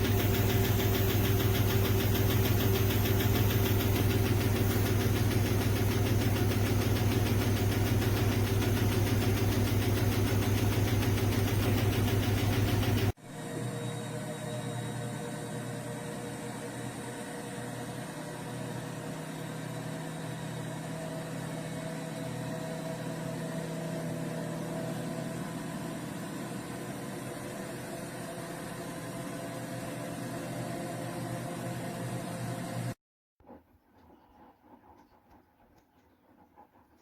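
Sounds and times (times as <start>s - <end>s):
washing machine motor hum: 0.0s - 33.0s.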